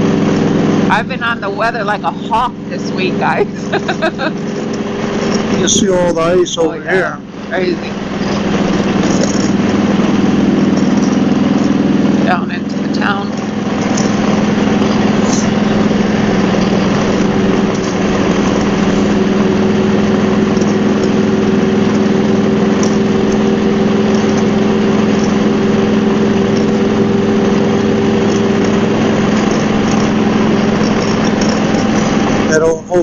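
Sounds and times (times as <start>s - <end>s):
motorcycle engine cruising: 0.0s - 33.0s
steady rushing noise: 0.0s - 33.0s.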